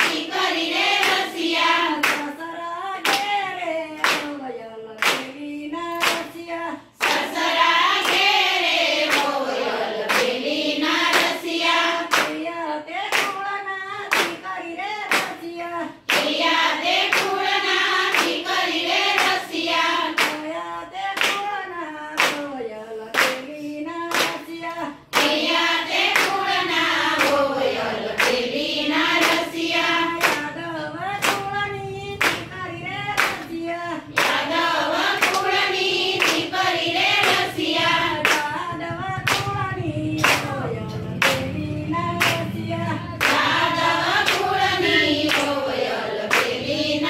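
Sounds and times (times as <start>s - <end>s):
rhythmic hand claps: 0.0s - 47.0s
women singing in unison: 0.0s - 47.0s.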